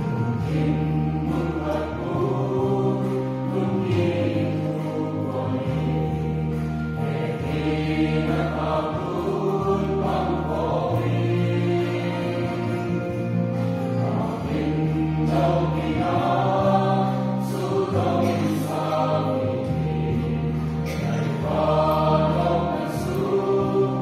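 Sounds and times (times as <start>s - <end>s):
choir singing a hymn: 0.0s - 24.0s
sustained bass accompaniment: 0.0s - 24.0s.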